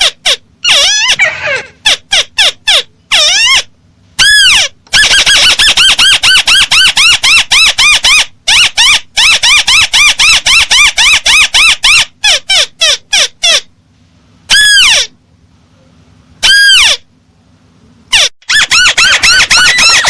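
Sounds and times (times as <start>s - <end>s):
recorded crake call: 0.0s - 13.7s, 14.5s - 15.2s, 16.4s - 17.1s, 18.1s - 20.0s.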